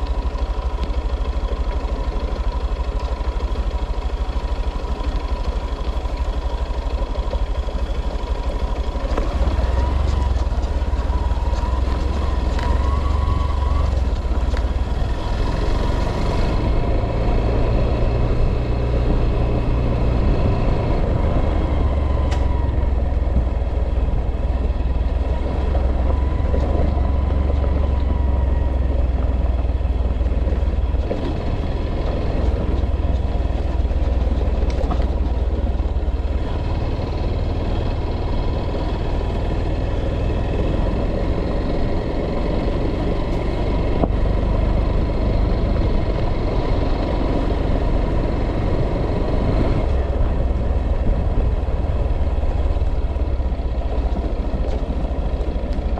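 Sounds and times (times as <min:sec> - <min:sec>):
vehicle engine rumbling: 0:00.0 - 0:55.9.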